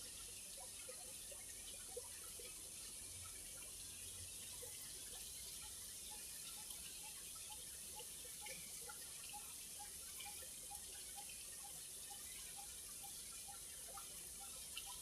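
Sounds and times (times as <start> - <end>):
faint water trickling: 0.0 - 15.0
water drips: 0.0 - 15.0.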